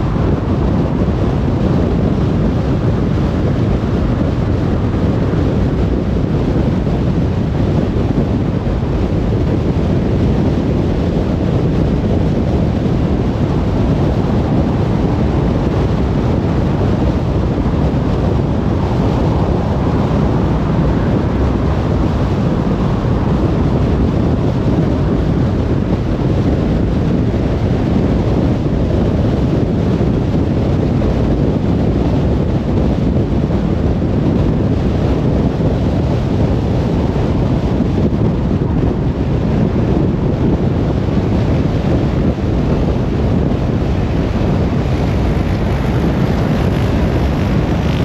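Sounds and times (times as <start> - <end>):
car road and tyre noise: 0.0 - 48.0.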